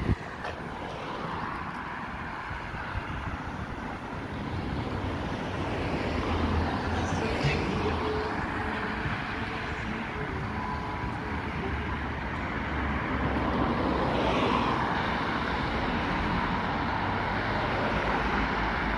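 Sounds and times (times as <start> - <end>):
cars driving past: 0.0 - 18.9.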